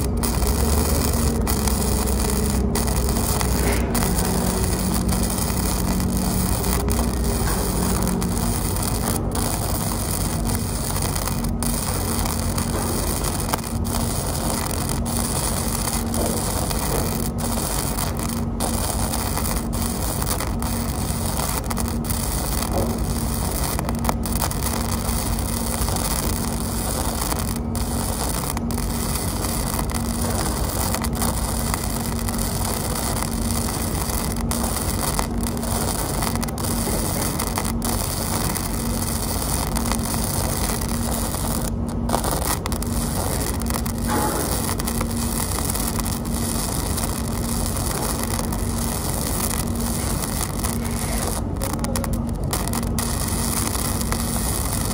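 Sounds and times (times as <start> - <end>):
low hum: 0.0 - 54.9
welding arc crackling: 0.0 - 54.9.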